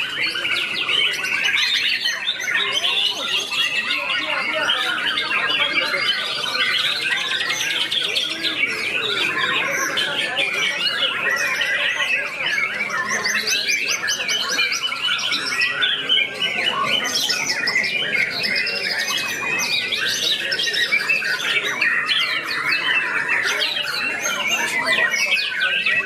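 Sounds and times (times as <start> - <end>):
chorus of songbirds: 0.0 - 26.0.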